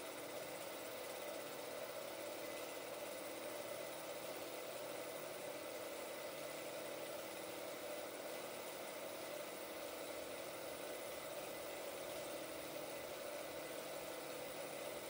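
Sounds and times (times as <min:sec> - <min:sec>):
film projector whirring: 0:00.0 - 0:15.0.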